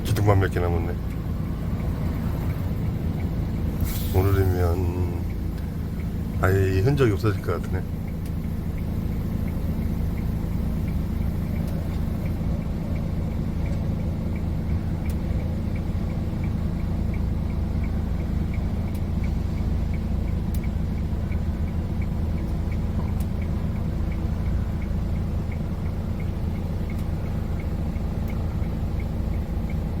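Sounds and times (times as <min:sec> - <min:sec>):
engine running steadily: 0:00.0 - 0:30.0
faint regular ticking: 0:00.0 - 0:30.0.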